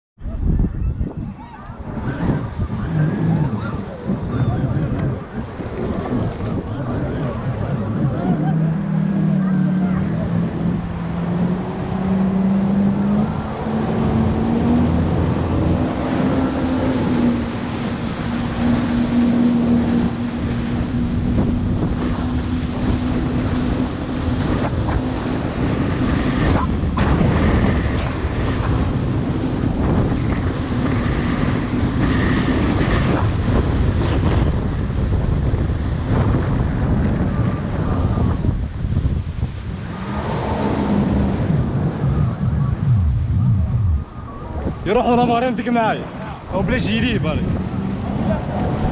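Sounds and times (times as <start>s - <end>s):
wind buffeting microphone: 0.2s - 48.9s
jet ski engine drone: 0.3s - 48.9s.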